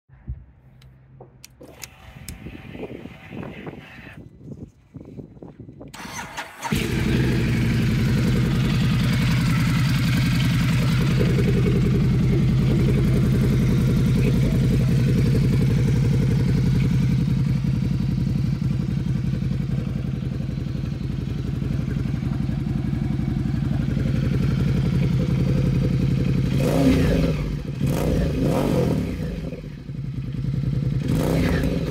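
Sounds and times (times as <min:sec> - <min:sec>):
motorcycle engine idling: 0:05.4 - 0:31.9.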